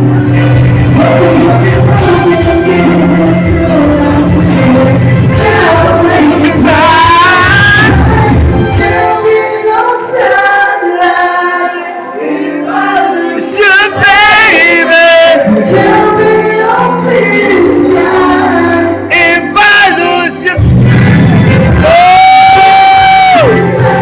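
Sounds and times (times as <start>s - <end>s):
backing music: 0.0s - 24.0s
person singing with vibrato: 0.0s - 24.0s.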